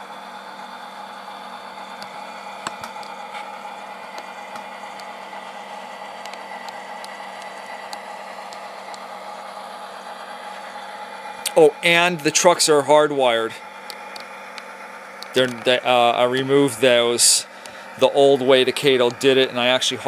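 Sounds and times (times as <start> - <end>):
diesel engine sound through small speaker: 0.0 - 20.0.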